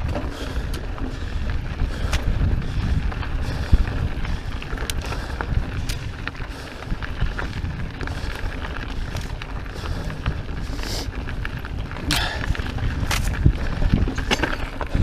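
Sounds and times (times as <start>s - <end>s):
bike rattling and clicking: 0.0s - 15.0s
tyres crunching over gravel: 0.0s - 15.0s
wind rumbling on microphone: 0.0s - 15.0s.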